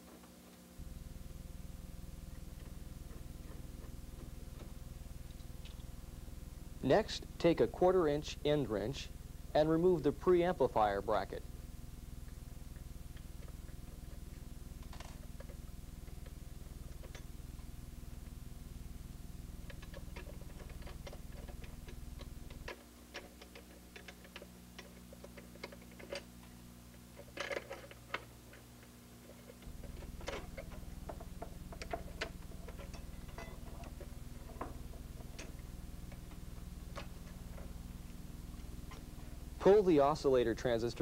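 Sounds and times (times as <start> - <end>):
low hum: 0.8 - 22.7, 24.3 - 41.0.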